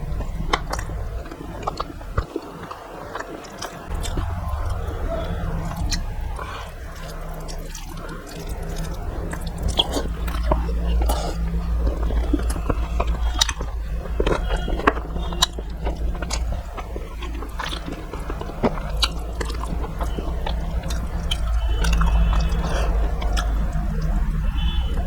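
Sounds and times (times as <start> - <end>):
person chewing food: 0.0 - 25.0
steady low hum: 0.0 - 25.0.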